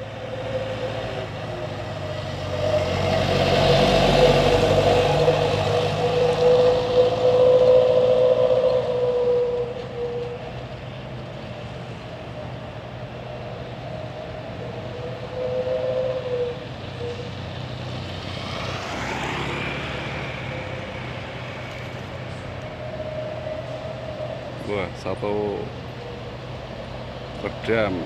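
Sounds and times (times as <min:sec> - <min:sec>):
vehicle passing close by: 0:00.0 - 0:10.3, 0:13.6 - 0:28.0
engine whine: 0:00.0 - 0:28.0
truck diesel engines humming: 0:00.0 - 0:28.0.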